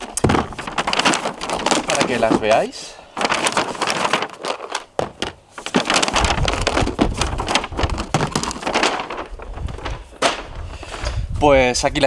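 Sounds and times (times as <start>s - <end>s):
plastic boxes rustling and clicking: 0.0s - 11.2s.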